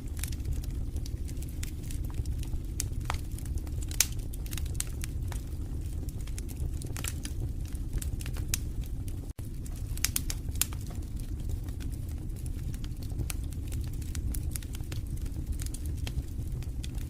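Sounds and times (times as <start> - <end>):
fire crackling and popping: 0.0 - 17.0
low rumble: 0.0 - 17.0.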